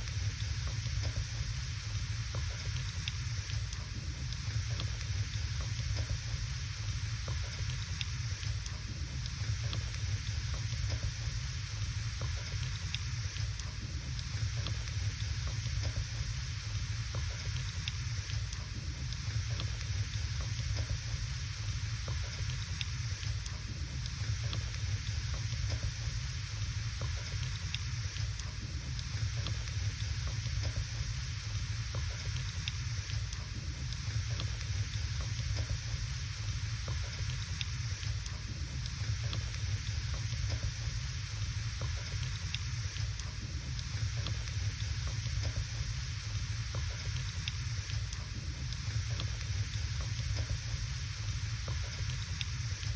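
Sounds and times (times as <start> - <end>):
wood fire crackling: 0.1 - 52.9.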